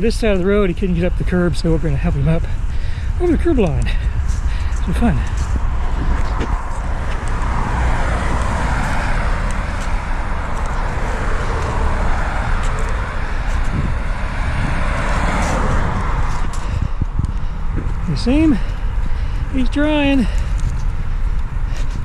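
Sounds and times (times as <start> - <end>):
cars passing: 0.0 - 22.0
low traffic rumble: 0.0 - 22.0.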